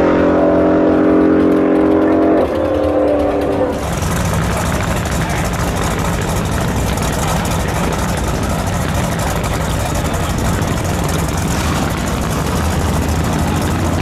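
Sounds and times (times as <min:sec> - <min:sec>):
car engine idling: 0:00.4 - 0:14.0.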